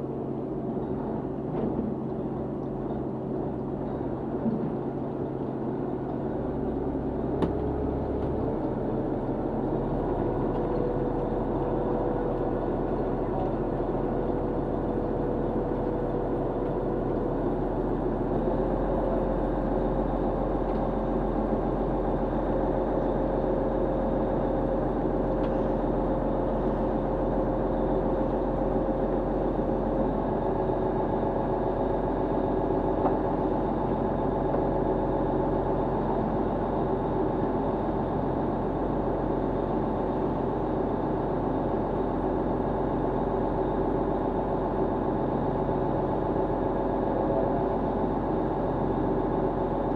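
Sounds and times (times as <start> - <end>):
boat engine humming: 3.5 - 49.9.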